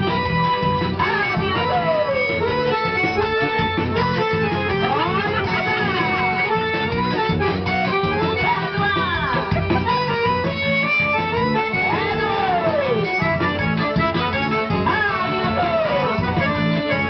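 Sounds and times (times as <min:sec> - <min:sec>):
dance music with plucked guitar: 0:00.0 - 0:17.0
steady bass beat: 0:01.4 - 0:17.0.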